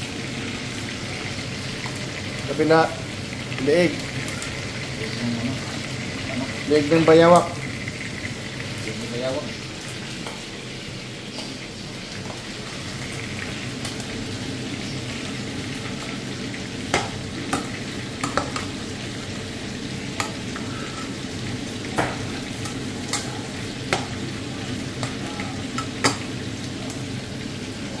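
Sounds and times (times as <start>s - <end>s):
meat sizzling in a frying pan: 0.0s - 28.0s.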